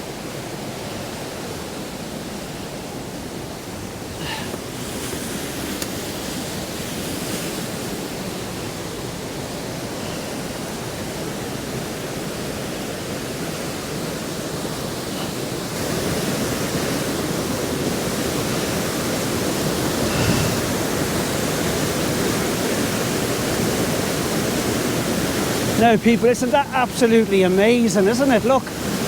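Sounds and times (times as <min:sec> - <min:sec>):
waterfall and rapids rushing: 0:00.0 - 0:29.0.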